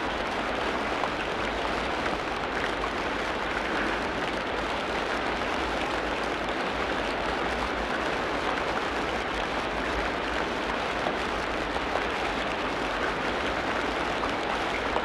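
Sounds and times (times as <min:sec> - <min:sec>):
rain falling on forest: 0:00.0 - 0:15.0.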